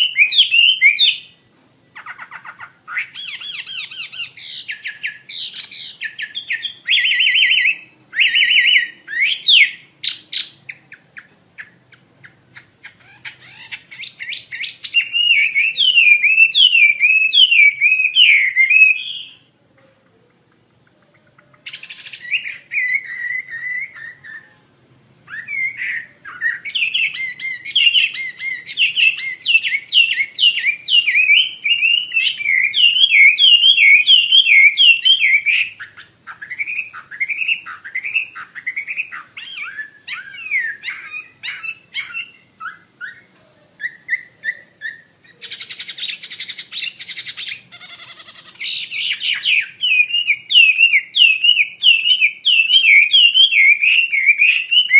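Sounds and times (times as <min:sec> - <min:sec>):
bird singing whistled notes: 0:00.0 - 0:01.4, 0:02.0 - 0:19.5, 0:21.4 - 0:24.6, 0:25.3 - 0:54.9
harsh buzzy bird phrases: 0:02.0 - 0:54.9.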